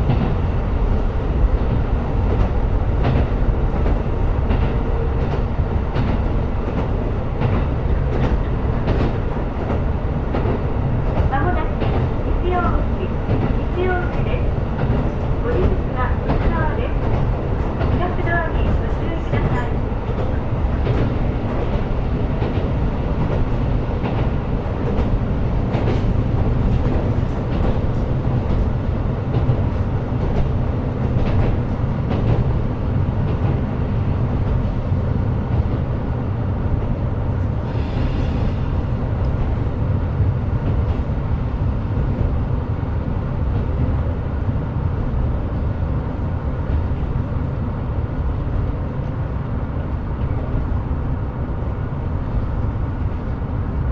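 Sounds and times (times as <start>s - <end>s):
railcar engine and wheels rumble: 0.0s - 53.9s.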